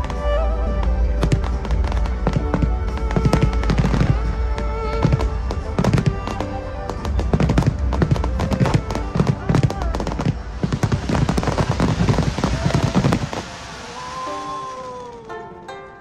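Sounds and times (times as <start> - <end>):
low rumble: 0.0 - 14.2
fireworks bangs: 0.0 - 15.3
music playing: 0.0 - 16.0.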